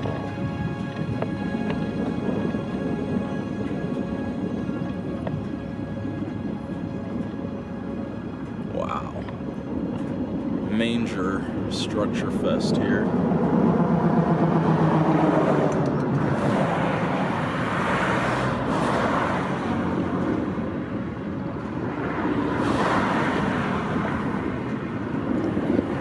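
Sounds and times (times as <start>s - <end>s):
low engine hum: 0.0s - 26.0s
vehicle road noise: 0.0s - 26.0s.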